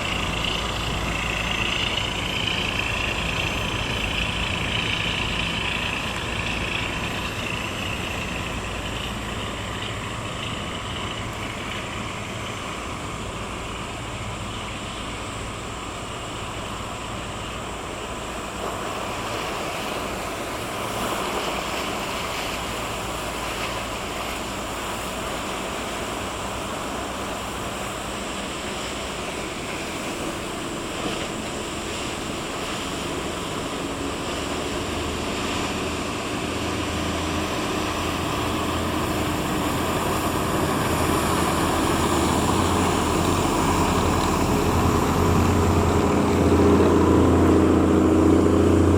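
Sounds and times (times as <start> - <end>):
boat diesel engine: 0.0 - 48.9
water wash: 0.0 - 48.9.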